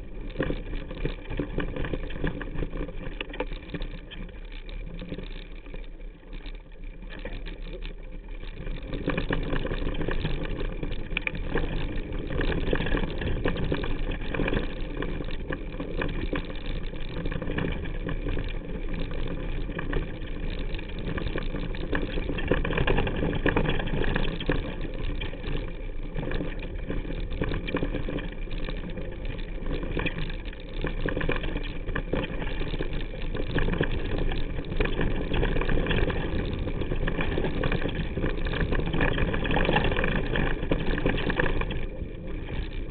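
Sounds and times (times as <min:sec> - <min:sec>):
bike chain and frame clattering: 0:00.0 - 0:42.9
bike tyres rumbling over stones: 0:00.0 - 0:42.9.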